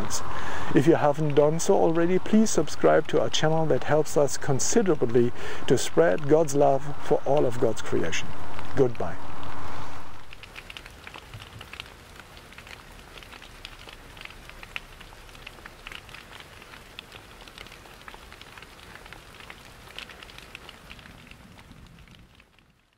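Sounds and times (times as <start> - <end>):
rain falling: 0.0 - 22.9
raindrops ticking on a surface: 0.0 - 22.9.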